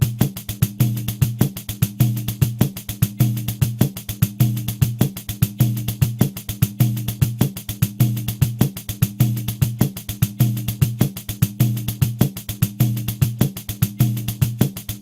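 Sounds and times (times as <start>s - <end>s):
pandeiro samba groove: 0.0s - 15.0s.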